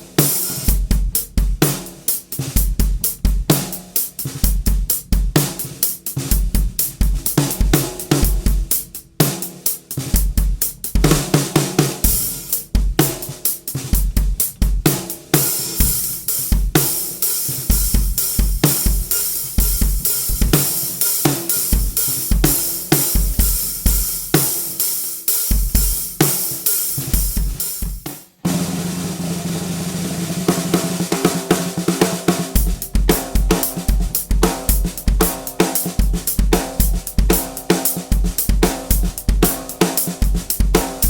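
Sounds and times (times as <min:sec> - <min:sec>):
drum kit groove: 0:00.0 - 0:41.0
low-tuned snare drum: 0:00.0 - 0:41.0.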